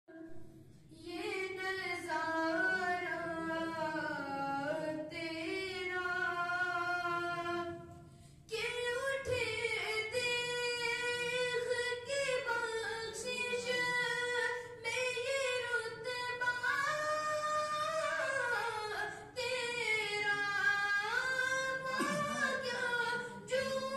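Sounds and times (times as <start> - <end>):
boy singing unaccompanied: 1.0 - 7.8, 8.5 - 23.9.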